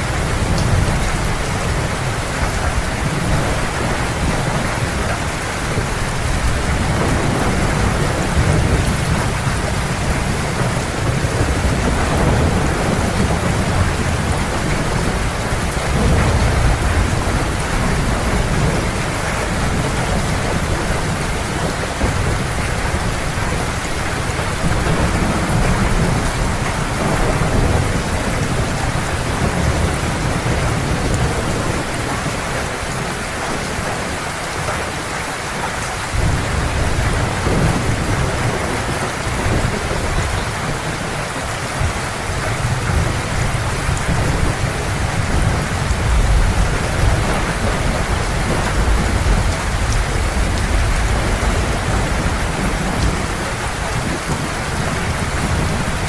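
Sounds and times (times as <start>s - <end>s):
low rumbling thunder: 0.0s - 34.2s, 36.0s - 56.0s
heavy rain falling: 0.0s - 56.0s.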